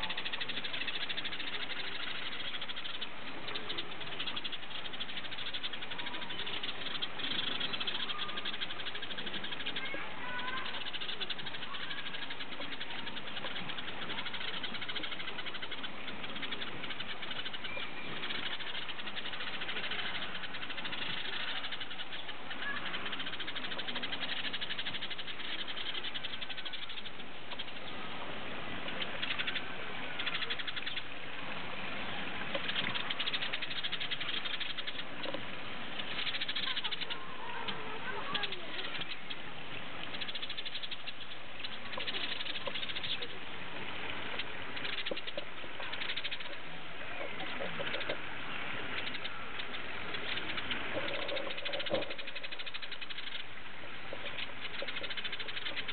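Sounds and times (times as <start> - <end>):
sparrows chirping: 0.0 - 55.9.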